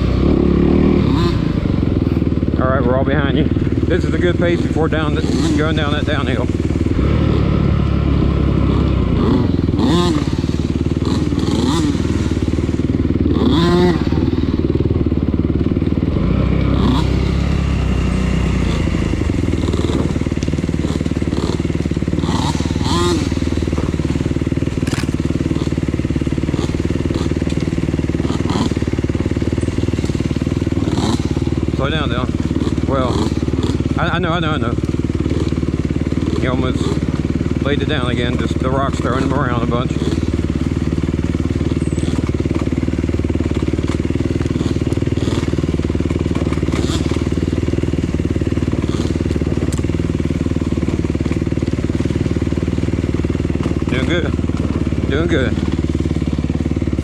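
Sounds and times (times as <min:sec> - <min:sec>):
off-road motorcycle engine running: 0:00.0 - 0:57.0.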